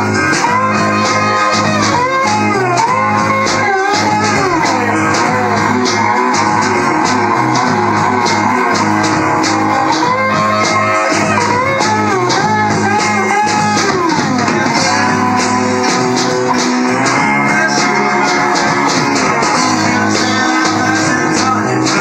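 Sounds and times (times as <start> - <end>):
guitar lead bending in pitch: 0.0 - 22.0
rock band playing: 0.0 - 22.0.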